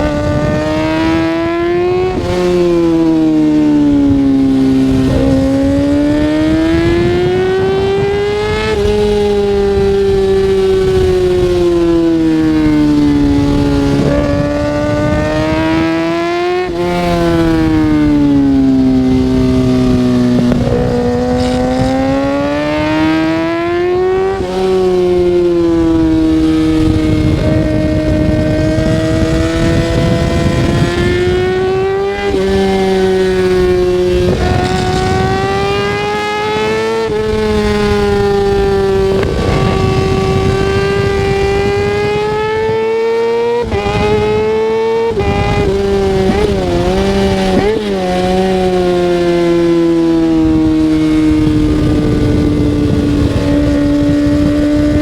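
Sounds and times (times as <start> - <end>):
motorcycle engine revving: 0.0 - 55.0
wind rush: 0.0 - 55.0.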